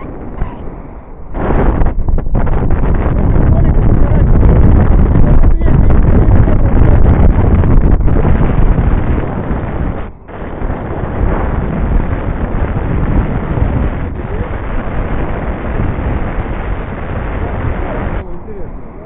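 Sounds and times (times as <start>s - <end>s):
wind roaring over microphone: 0.0s - 19.0s.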